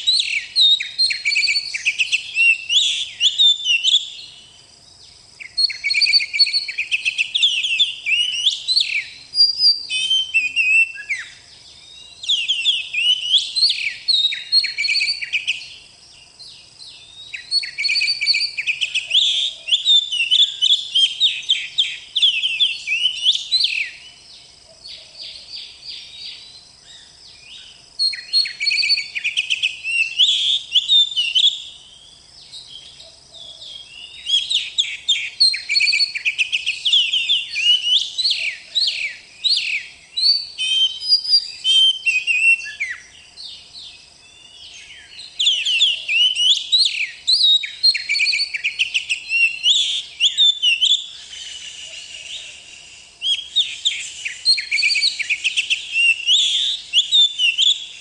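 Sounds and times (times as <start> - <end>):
magpie-robin singing: 0.0 - 4.4, 5.4 - 15.7, 17.0 - 24.1, 25.0 - 31.8, 32.8 - 43.1, 44.3 - 52.5, 53.2 - 58.0.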